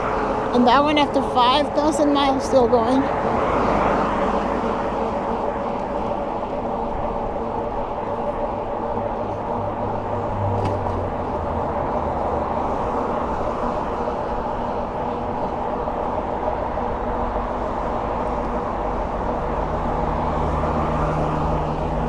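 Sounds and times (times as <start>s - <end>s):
road noise: 0.0s - 22.0s
rushing wind: 0.0s - 22.0s.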